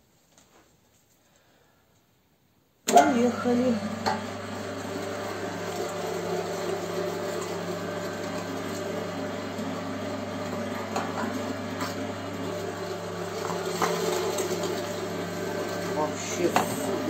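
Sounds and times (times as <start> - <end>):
meat grinder motor hum: 2.9 - 17.0.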